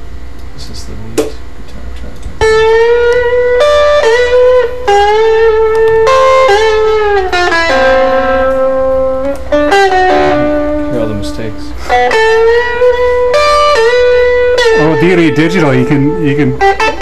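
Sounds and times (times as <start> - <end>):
electric lead guitar with effects: 2.2 - 17.0.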